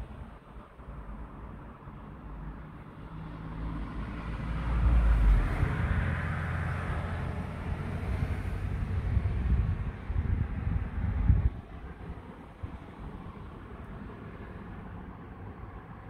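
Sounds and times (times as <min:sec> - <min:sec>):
traffic noise: 0:00.0 - 0:16.0
vehicle engine rumble passing: 0:02.4 - 0:16.0.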